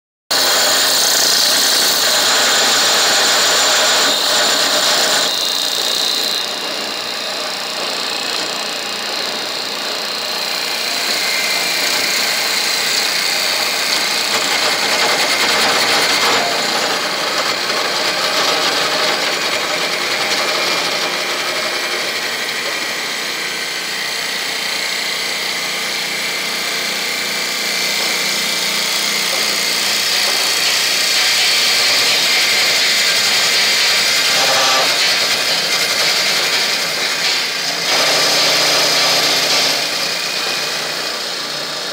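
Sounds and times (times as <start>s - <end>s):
wood lathe cutting wood: 0.3s - 41.9s.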